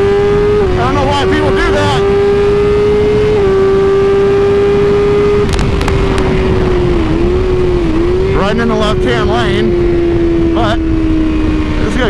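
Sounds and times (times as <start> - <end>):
motorcycle engine cruising: 0.0 - 12.0
wind rushing across microphone: 0.0 - 12.0.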